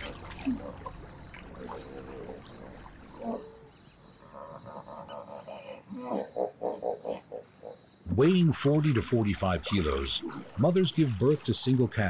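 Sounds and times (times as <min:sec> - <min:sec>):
frogs croaking chorus: 0:00.0 - 0:12.0.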